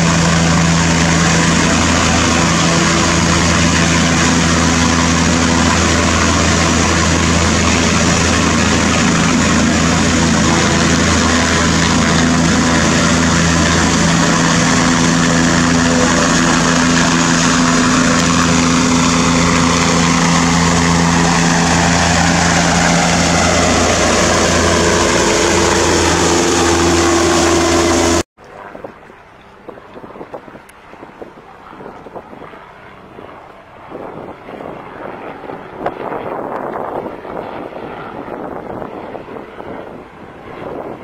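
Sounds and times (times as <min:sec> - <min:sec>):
helicopter turbine and rotor: 0:00.0 - 0:41.0.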